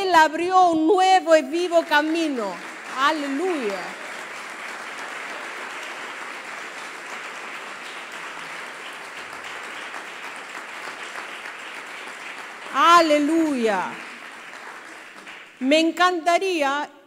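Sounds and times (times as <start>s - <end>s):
congregation applauding: 1.2s - 15.9s.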